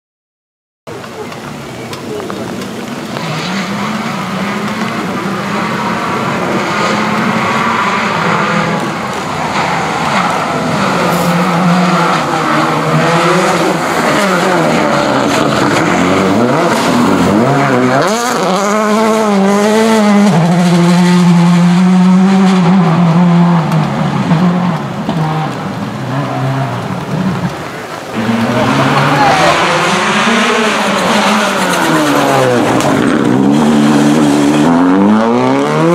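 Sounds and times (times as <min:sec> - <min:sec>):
rally car engine passing by: 0:02.4 - 0:35.9.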